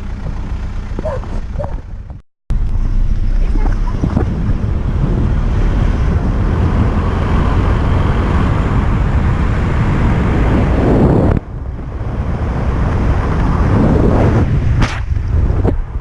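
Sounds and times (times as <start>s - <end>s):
wind buffeting microphone: 1.0s - 16.0s.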